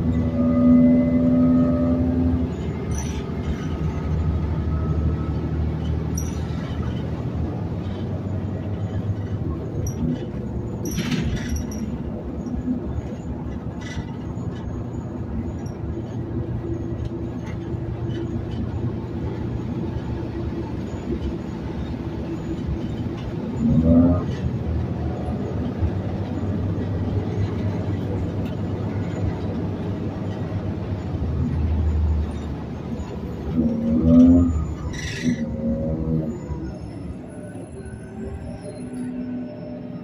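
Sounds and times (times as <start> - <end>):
bus engine drone: 0.0 - 40.0
road noise: 0.0 - 40.0.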